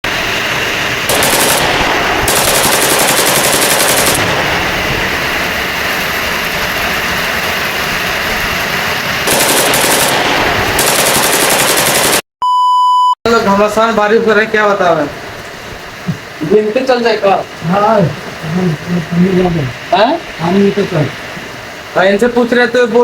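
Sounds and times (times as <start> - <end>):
heavy rain pouring: 0.0 - 12.2, 13.3 - 23.0.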